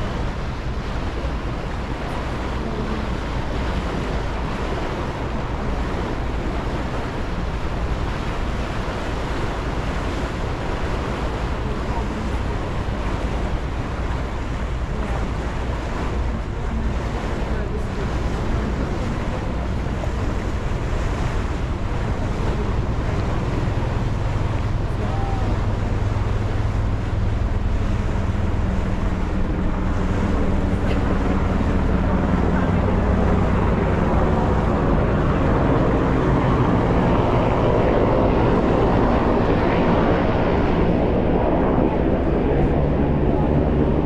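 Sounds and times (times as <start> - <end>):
boat engine rumble: 0.0 - 44.0
water rushing along hull: 0.0 - 44.0
wind on microphone: 0.0 - 44.0.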